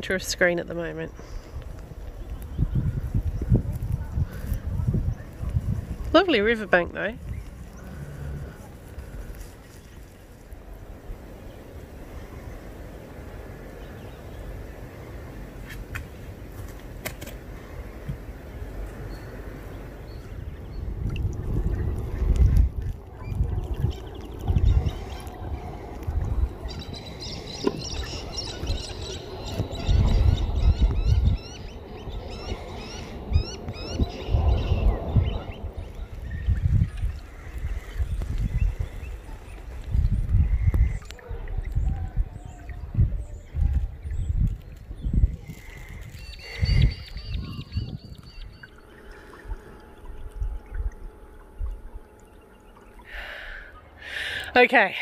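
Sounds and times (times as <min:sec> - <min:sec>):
low rumbling bursts: 0:00.0 - 0:15.6, 0:16.2 - 0:55.0
birds chirping: 0:00.0 - 0:16.4, 0:17.6 - 0:55.0.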